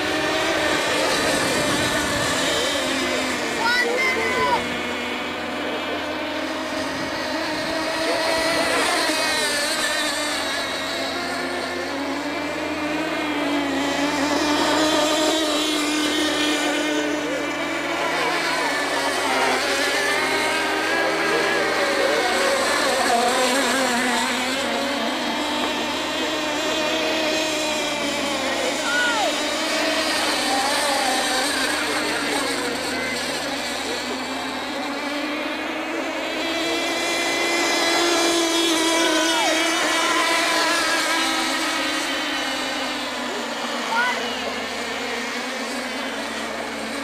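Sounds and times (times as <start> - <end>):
model boat engines whining: 0.0 - 47.0.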